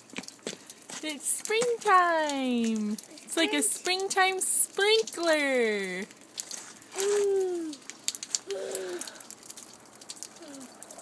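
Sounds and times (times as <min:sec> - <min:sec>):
meltwater dripping off roof: 0:00.0 - 0:11.0.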